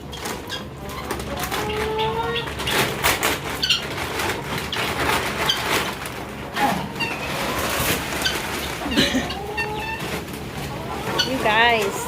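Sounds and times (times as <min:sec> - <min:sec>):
farmyard animal call: 0:00.0 - 0:12.0
rustling: 0:00.0 - 0:12.0.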